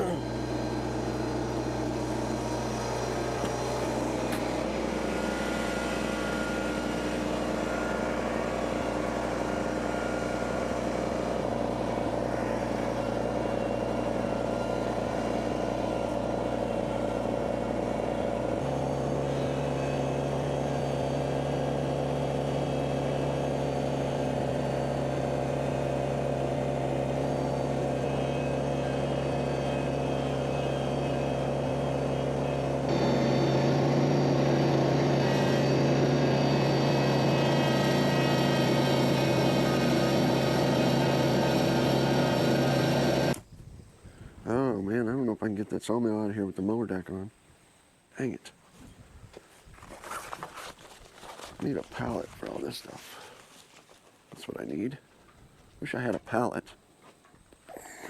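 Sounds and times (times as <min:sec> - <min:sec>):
tractor diesel engine running: 0:00.0 - 0:43.5, 0:49.8 - 0:58.0.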